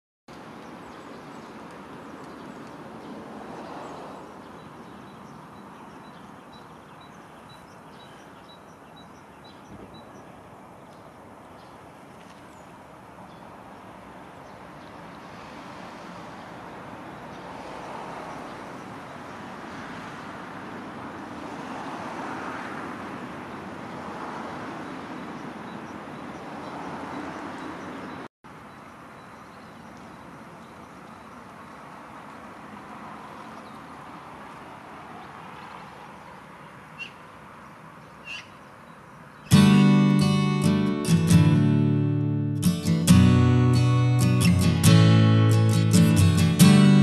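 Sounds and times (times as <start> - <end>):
distant traffic: 0.3 - 47.0.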